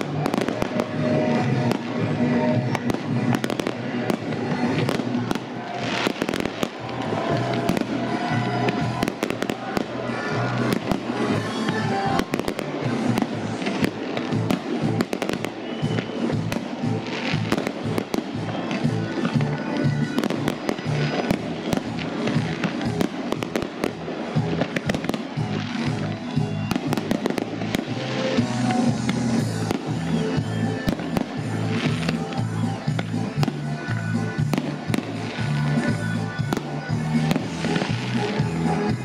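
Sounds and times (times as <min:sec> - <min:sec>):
fireworks bursting and crackling: 0:00.0 - 0:39.0
music with low beat: 0:00.0 - 0:39.0.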